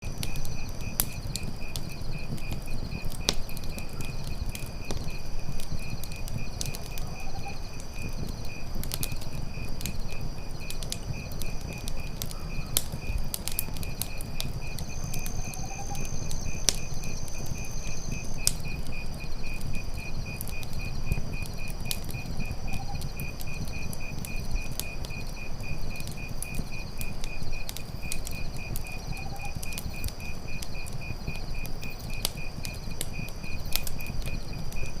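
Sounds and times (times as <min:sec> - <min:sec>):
campfire crackling and popping: 0:00.0 - 0:35.0
insects trilling: 0:00.0 - 0:35.0.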